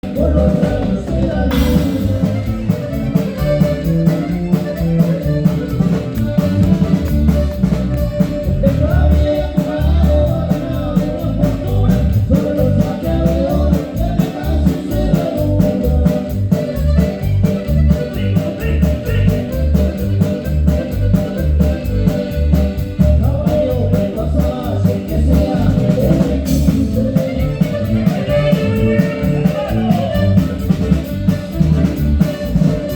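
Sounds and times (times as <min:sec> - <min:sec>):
ranchero band playing: 0:00.0 - 0:32.9.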